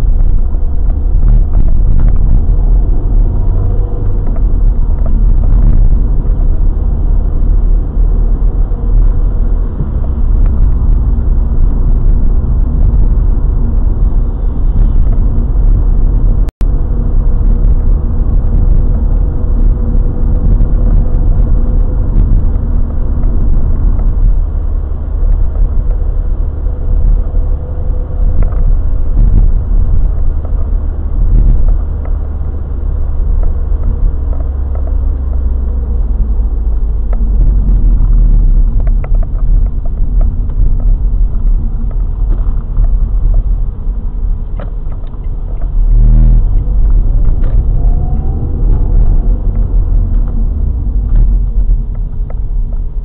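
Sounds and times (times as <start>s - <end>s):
car driving rumble: 0.0s - 53.0s.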